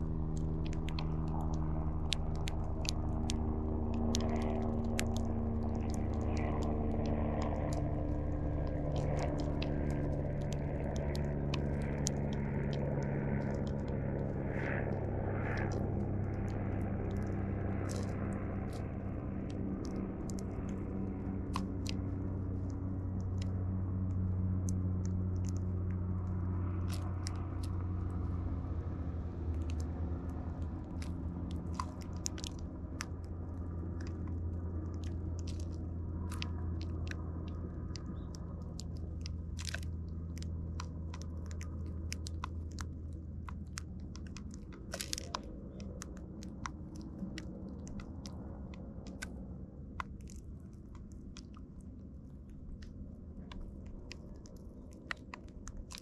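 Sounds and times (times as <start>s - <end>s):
birds pecking and cracking seed: 0.0s - 56.0s
steady low hum: 0.0s - 56.0s.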